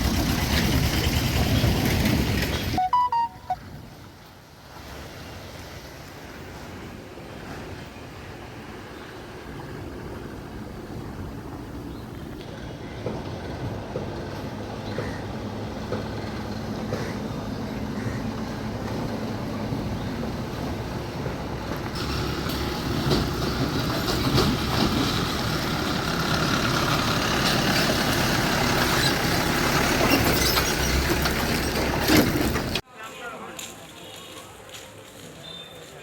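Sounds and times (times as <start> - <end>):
vehicle rumble and hiss: 3.7 - 32.8.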